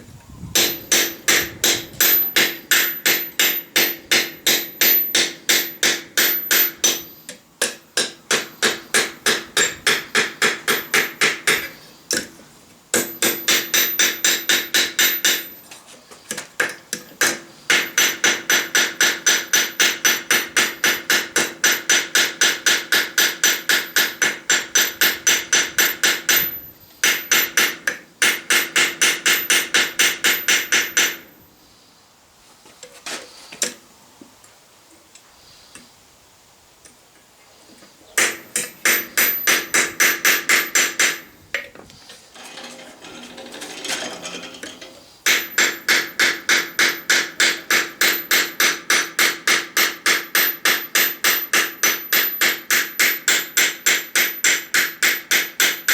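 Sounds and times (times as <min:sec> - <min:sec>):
hammer striking steel on anvil: 0:00.6 - 0:12.3, 0:13.0 - 0:15.6, 0:16.6 - 0:31.3, 0:38.2 - 0:41.3, 0:42.4 - 0:55.9.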